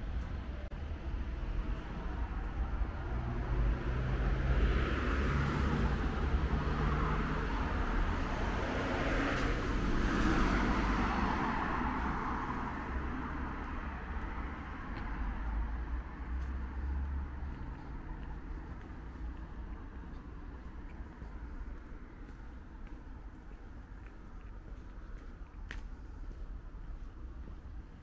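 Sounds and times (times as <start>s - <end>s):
cars passing: 0.0s - 28.0s
low traffic rumble: 0.0s - 28.0s.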